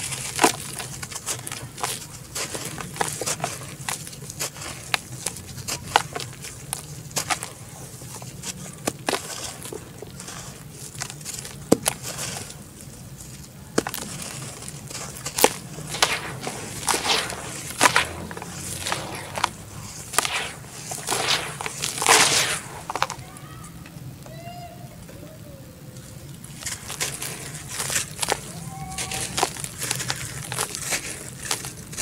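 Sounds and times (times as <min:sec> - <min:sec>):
mud squeezing and water sloshing: 0:00.0 - 0:23.2, 0:26.4 - 0:32.0
dry dirt crunching and snapping: 0:00.0 - 0:24.0, 0:26.2 - 0:32.0.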